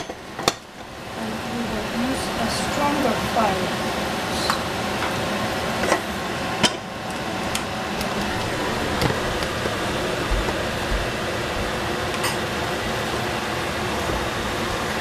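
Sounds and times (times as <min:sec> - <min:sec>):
steady fan noise: 0:00.0 - 0:15.0.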